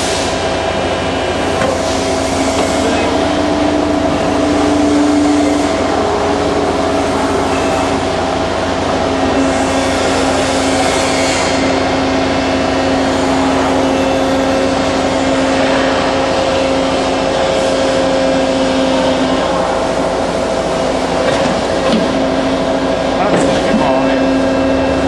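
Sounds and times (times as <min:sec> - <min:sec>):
machine humming: 0:00.0 - 0:25.0
steady tones: 0:00.0 - 0:25.0.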